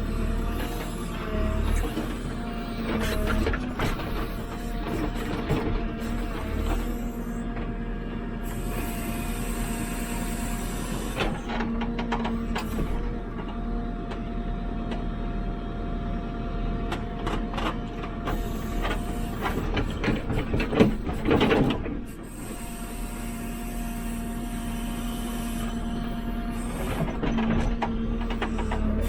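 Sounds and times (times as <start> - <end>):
diesel engine whining under load: 0.0 - 29.0.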